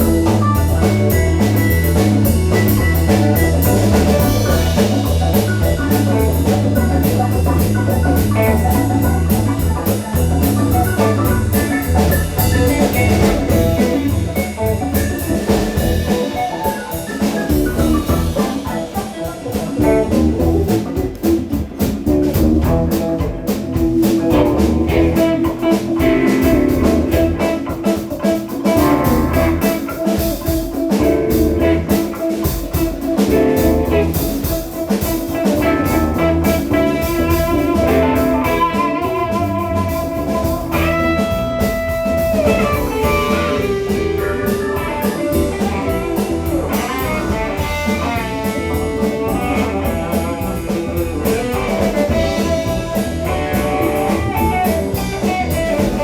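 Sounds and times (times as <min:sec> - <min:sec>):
bass and drums: 0:00.0 - 0:56.0
lead electric guitar: 0:00.0 - 0:56.0.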